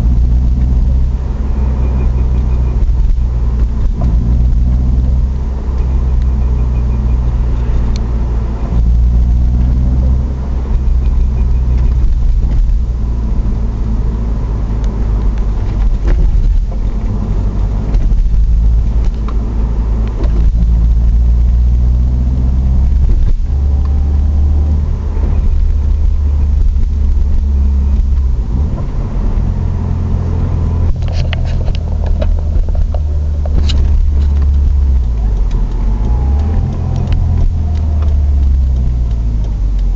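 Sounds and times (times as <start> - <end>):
car engine and drivetrain running: 0.0 - 39.9.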